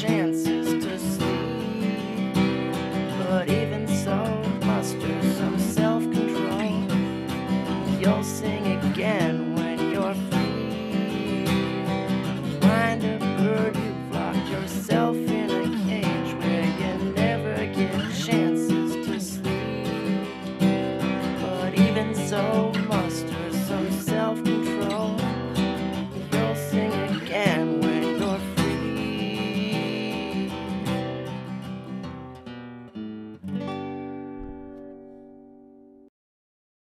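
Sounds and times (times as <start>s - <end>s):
strummed acoustic guitar: 0.0s - 36.1s.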